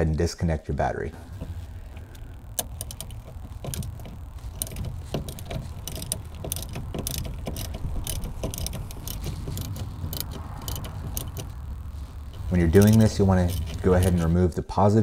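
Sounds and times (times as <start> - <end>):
low steady rumble: 0.0 - 14.9
metal clinking: 1.3 - 14.4
socket ratchet clicking: 1.4 - 14.3.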